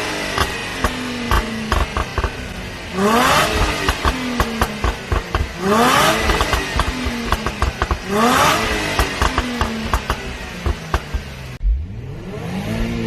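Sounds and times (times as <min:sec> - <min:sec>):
car engine revving: 0:00.0 - 0:13.0
exhaust pops and crackles: 0:00.1 - 0:11.6.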